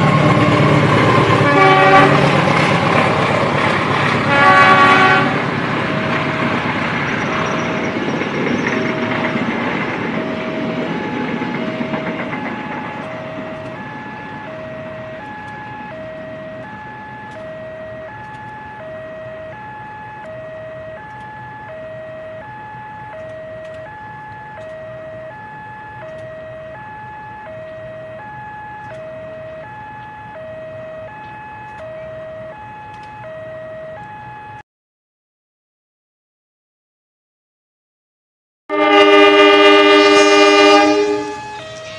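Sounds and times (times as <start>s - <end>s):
two-tone warning alarm: 0.0s - 2.6s, 4.1s - 34.6s, 38.7s - 41.9s
train rumbling past: 0.0s - 33.0s, 38.7s - 41.9s.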